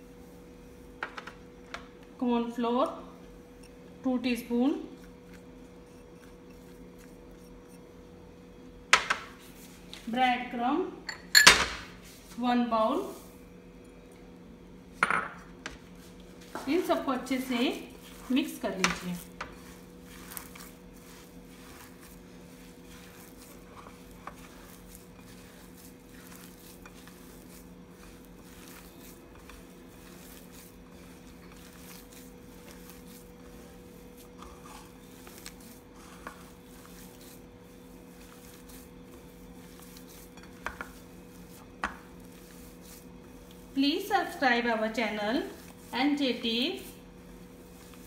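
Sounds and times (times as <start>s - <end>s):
hands kneading mixture: 0.0s - 14.6s, 15.5s - 48.0s
steady hum: 0.0s - 48.0s.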